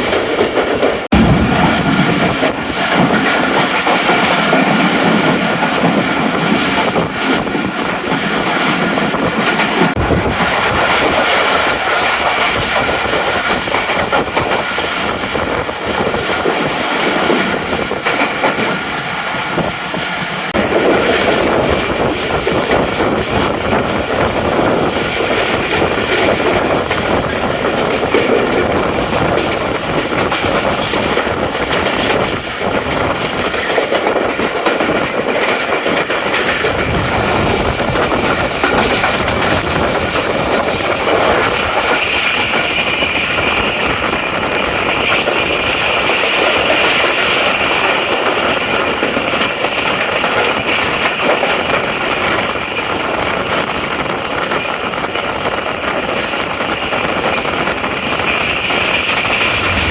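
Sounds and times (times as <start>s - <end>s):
passenger train running on rails: 0.0s - 59.9s.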